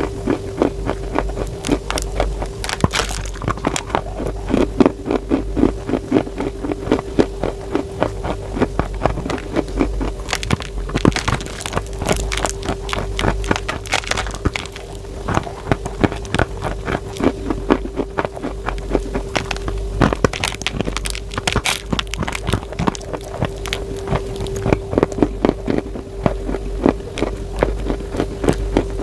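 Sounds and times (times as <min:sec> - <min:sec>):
faint steady hum: 0:00.0 - 0:29.0
chalk crunching in the mouth: 0:00.3 - 0:28.9.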